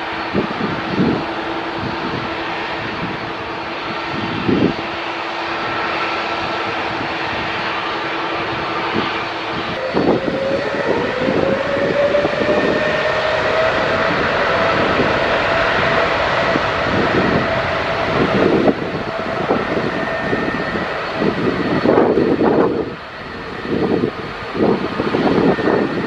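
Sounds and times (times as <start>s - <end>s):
jet engines whining: 0.0s - 26.0s
rushing noise: 0.0s - 26.0s
whine rising in pitch: 0.0s - 26.0s.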